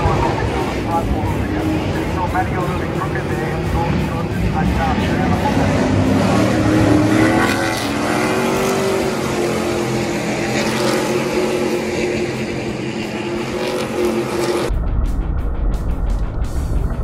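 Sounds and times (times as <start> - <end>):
truck engines droning: 0.0 - 14.7.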